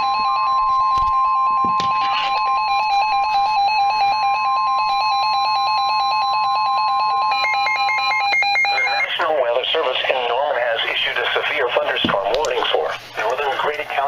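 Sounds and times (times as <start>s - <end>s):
steady loud alarm tone: 0.0s - 13.0s.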